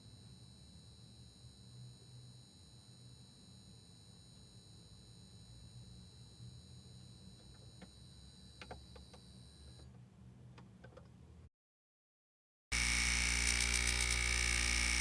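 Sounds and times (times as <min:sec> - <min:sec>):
neon light buzzing: 0:00.0 - 0:09.9, 0:12.8 - 0:15.0.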